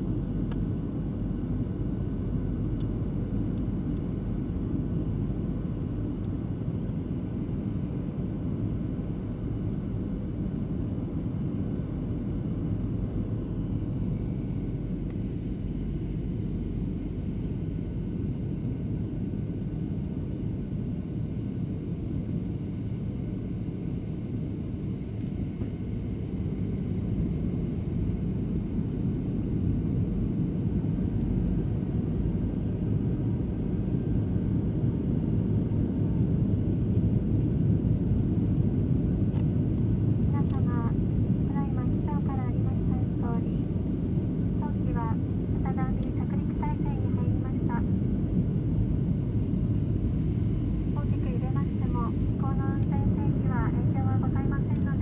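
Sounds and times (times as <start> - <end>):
airliner engine and airflow rumble: 0.0 - 55.0.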